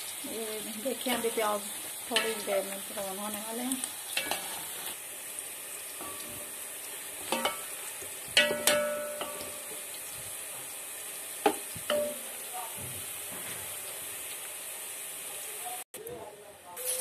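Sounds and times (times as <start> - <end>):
onions sizzling in oil: 0.0 - 15.9.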